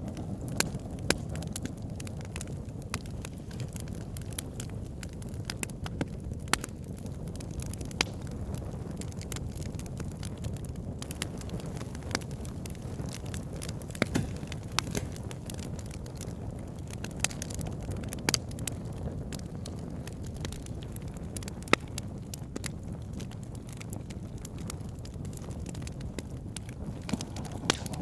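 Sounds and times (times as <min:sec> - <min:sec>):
fire crackling and popping: 0:00.0 - 0:28.0
low roar of flames: 0:00.0 - 0:28.0.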